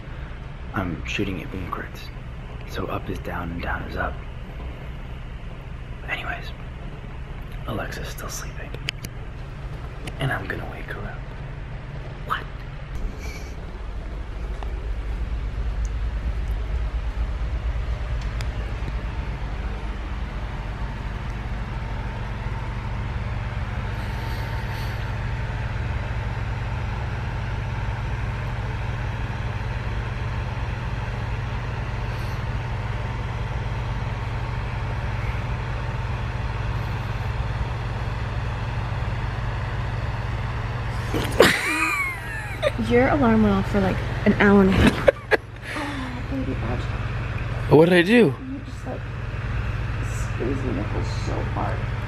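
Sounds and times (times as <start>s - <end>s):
ship machinery hum and rumble: 0.0s - 52.0s.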